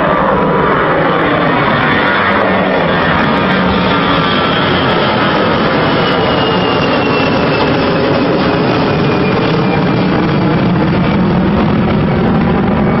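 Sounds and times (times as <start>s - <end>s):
jet airliner roaring overhead: 0.0s - 13.0s.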